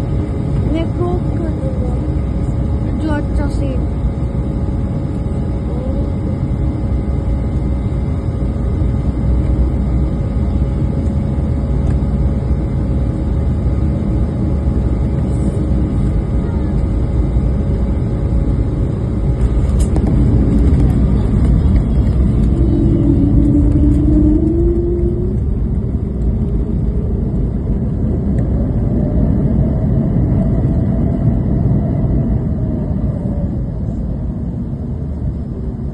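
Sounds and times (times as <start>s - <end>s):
airliner cabin rumble: 0.0s - 35.9s
faint engine tones: 0.0s - 35.9s
rising whine: 0.0s - 35.9s.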